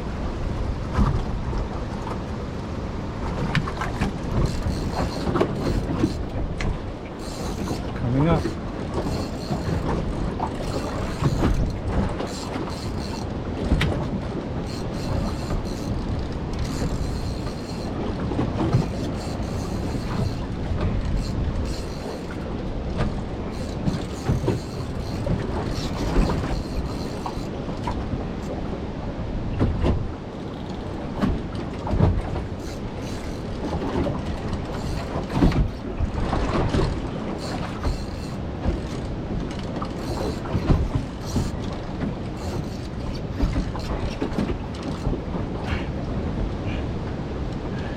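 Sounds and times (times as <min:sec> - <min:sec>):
boat knocks and thuds: 0:00.8 - 0:47.9.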